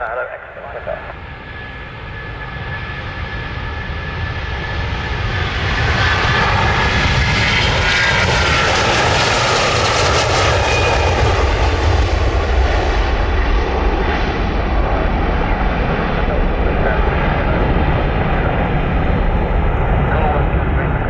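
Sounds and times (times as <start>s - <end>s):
jet engine whine: 0.0s - 21.0s
jet engines roaring: 0.0s - 21.0s.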